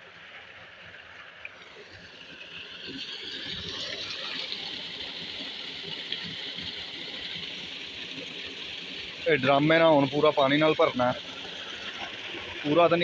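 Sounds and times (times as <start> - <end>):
water gushing into tank: 1.4 - 13.0.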